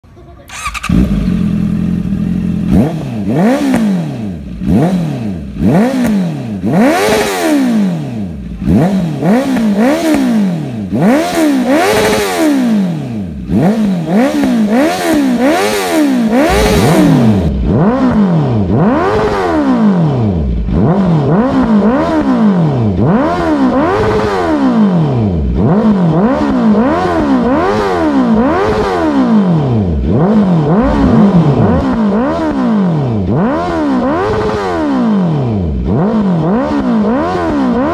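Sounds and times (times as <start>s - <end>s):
motorcycle engine revving: 0.3s - 37.9s.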